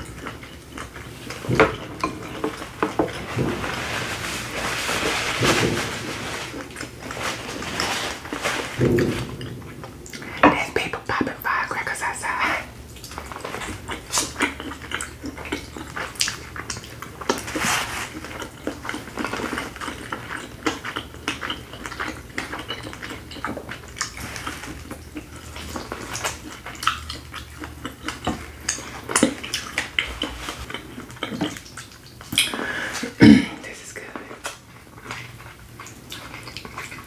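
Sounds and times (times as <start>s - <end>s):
chewing and lip smacking: 0.0s - 4.0s, 6.4s - 33.2s, 33.8s - 37.0s.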